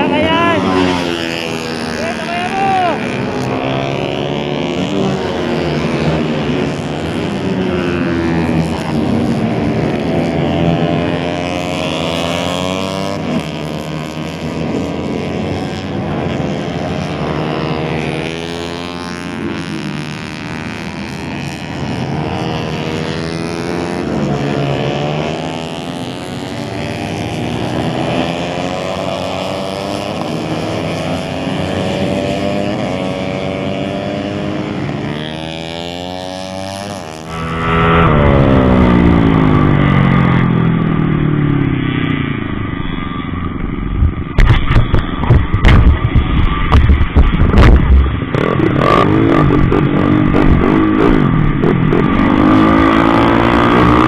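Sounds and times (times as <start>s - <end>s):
motorcycle engines racing: 0.0s - 54.0s.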